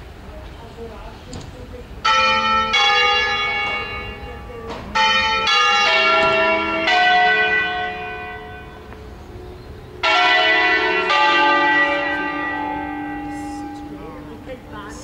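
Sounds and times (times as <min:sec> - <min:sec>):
church bells ringing: 0:02.0 - 0:15.0.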